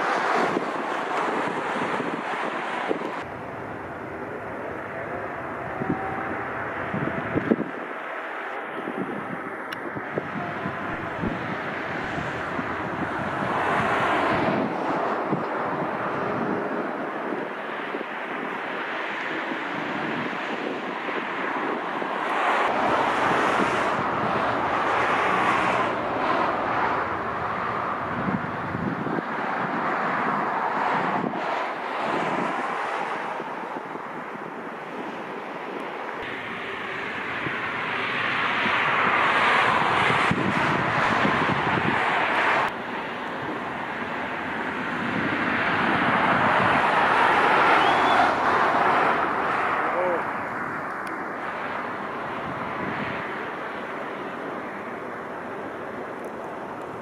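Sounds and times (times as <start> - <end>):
jet airliner engine noise: 0.0 - 57.0
wind across microphone: 0.0 - 57.0.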